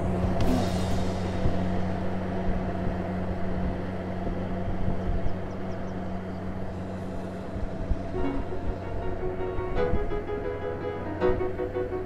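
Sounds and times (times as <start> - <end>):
combine harvester engine running: 0.0 - 12.0.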